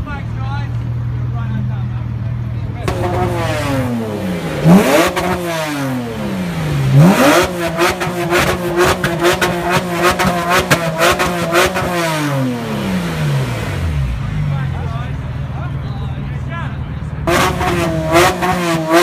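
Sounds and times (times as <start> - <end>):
car engine revving: 0.8 - 15.6, 16.8 - 19.0.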